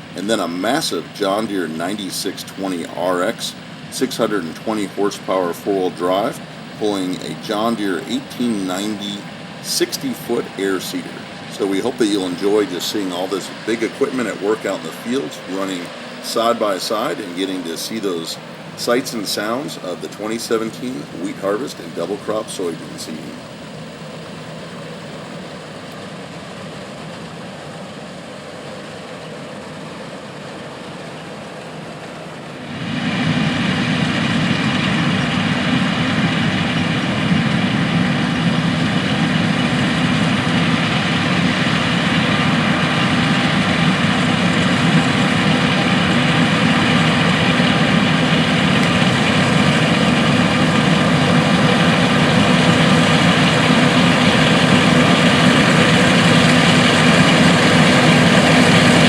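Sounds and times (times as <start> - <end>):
diesel farm machinery droning: 0.0 - 59.0.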